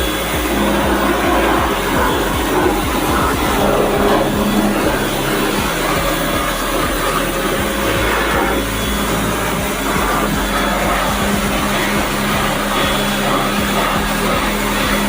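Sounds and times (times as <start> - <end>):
motor humming with hiss: 0.0 - 15.0.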